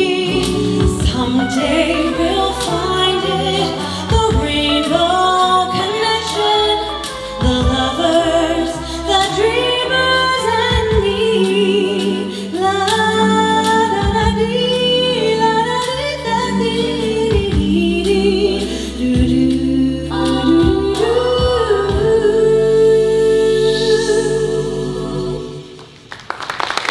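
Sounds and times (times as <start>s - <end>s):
a cappella vocal group singing: 0.0s - 26.2s.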